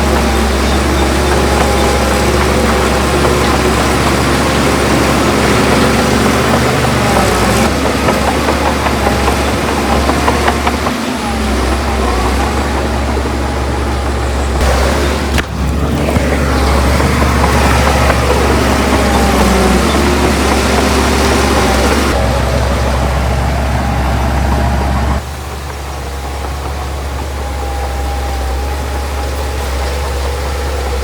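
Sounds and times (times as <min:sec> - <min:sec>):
heavy machinery diesel engine: 0:00.0 - 0:31.0.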